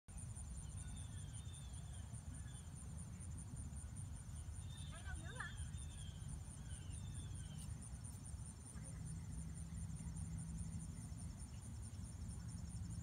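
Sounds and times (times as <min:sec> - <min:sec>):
insects trilling: 0:00.1 - 0:13.0.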